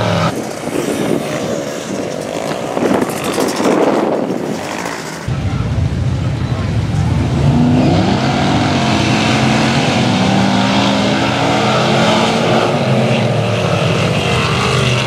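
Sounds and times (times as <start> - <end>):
off-road truck engines revving: 0.0 - 15.0.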